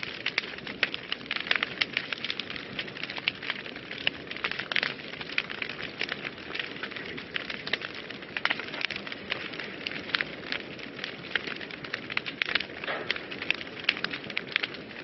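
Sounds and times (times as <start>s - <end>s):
fire crackles and pops: 0.0s - 15.0s
fire flames rushing: 0.0s - 15.0s.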